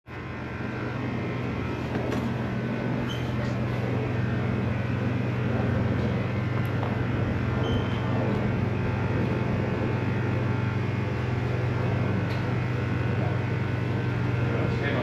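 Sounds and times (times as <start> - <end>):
engine idling: 0.1 - 15.0.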